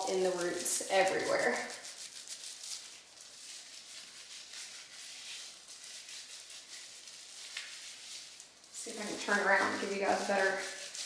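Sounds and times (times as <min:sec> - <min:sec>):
fingers rubbing wet hair: 0:00.0 - 0:11.0.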